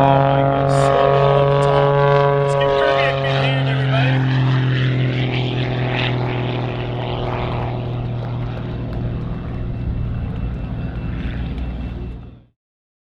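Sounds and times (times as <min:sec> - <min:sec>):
plane engine and propeller drone: 0:00.0 - 0:12.6.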